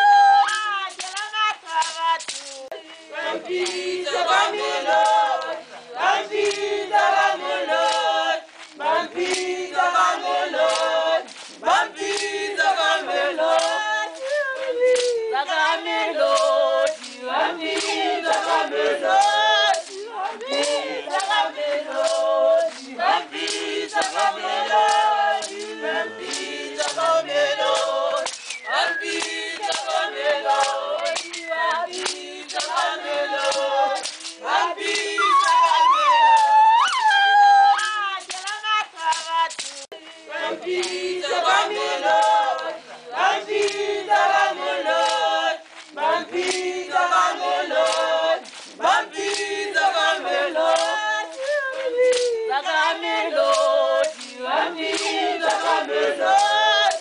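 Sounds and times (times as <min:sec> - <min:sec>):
choir singing: 0:00.0 - 0:57.0
hand claps: 0:00.0 - 0:57.0.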